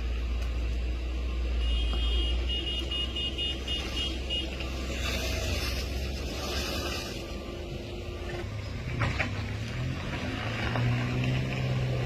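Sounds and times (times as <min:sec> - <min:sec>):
vehicle rumble on road: 0:00.0 - 0:12.0.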